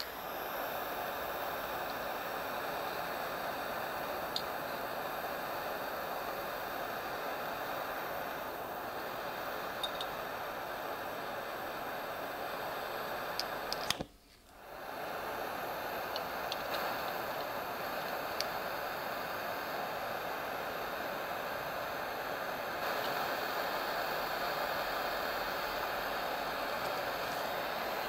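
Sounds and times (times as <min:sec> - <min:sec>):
gas torch hissing: 0:00.0 - 0:28.0.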